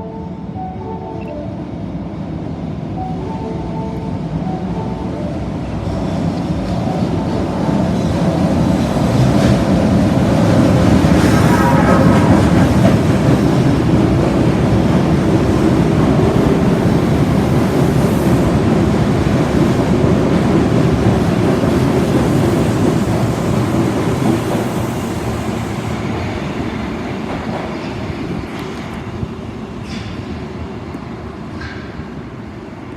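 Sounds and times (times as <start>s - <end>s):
subway train rumbling: 0.0s - 32.9s.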